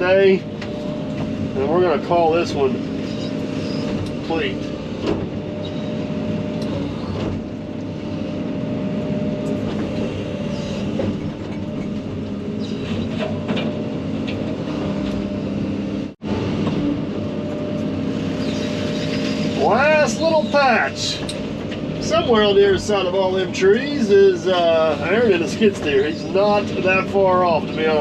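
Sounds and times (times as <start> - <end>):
excavator diesel engine: 0.0 - 28.0
hydraulic mower running: 0.0 - 28.0.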